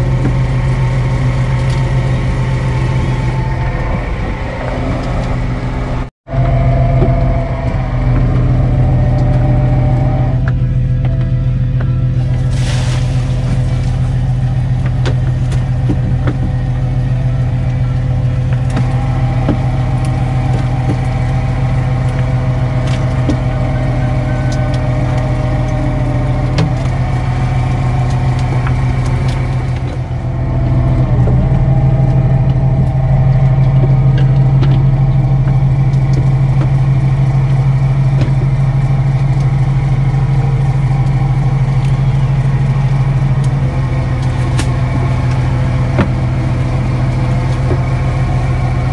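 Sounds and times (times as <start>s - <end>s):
boat engine droning: 0.0s - 48.9s.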